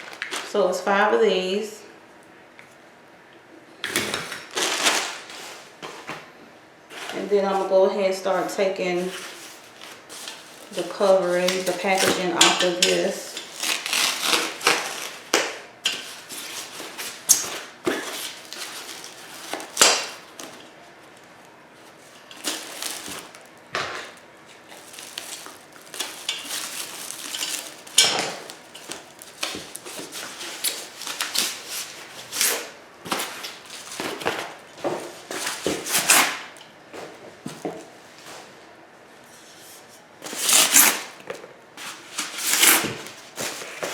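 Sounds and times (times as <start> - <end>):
packaging crinkling and rustling: 0.0 - 0.5, 3.8 - 6.2, 8.3 - 38.5, 40.2 - 43.9.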